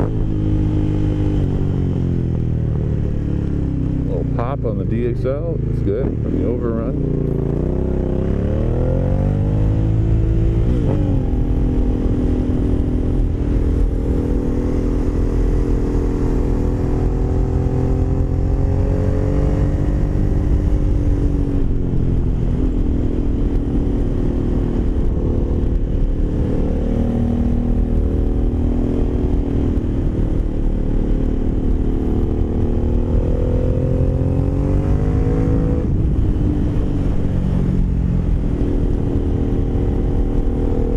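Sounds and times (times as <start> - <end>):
motorcycle engine under way: 5.6 - 40.9.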